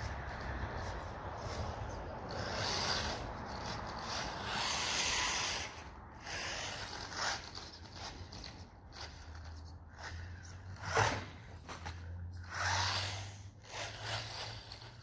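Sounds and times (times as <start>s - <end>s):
rc car motor and tyres rushing: 0.0s - 15.0s.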